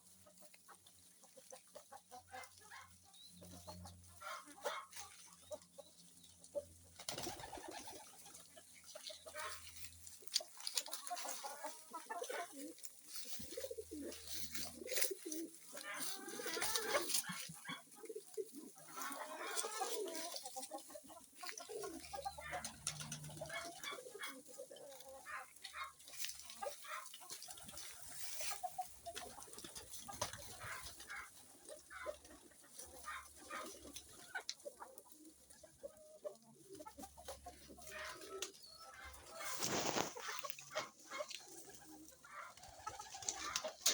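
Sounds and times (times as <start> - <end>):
hens clucking: 0.0 - 43.9
pigeons cooing: 6.9 - 43.9.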